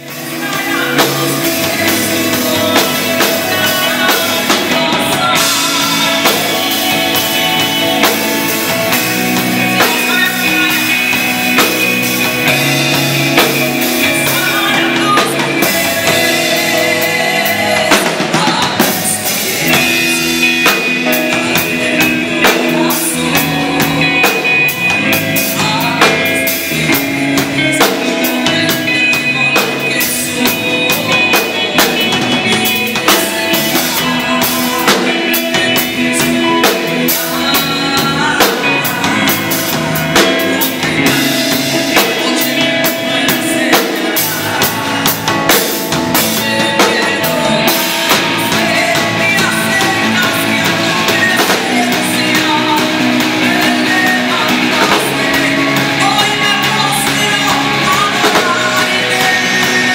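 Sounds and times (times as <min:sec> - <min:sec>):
woman singing into a microphone: 0:00.0 - 0:59.9
worship band playing: 0:00.0 - 0:59.9.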